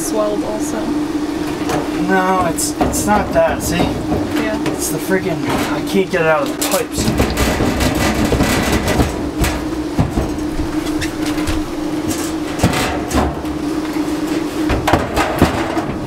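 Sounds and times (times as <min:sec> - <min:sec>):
steady hum: 0:00.0 - 0:16.0
metal housing scraping and rattling: 0:00.6 - 0:16.0
sharp knocks: 0:01.5 - 0:13.6, 0:14.6 - 0:16.0.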